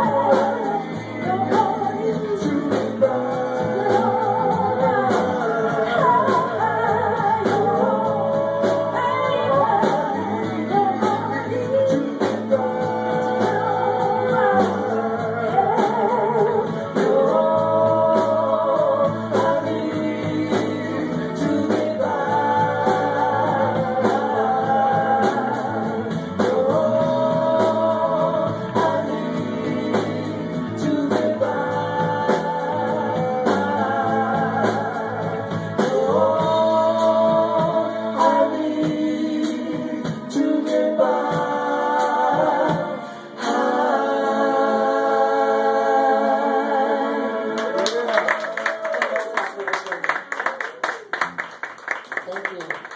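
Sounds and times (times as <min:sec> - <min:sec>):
live band playing: 0:00.0 - 0:44.5
steady drum beat: 0:00.0 - 0:44.6
person singing lead vocal: 0:00.0 - 0:49.2.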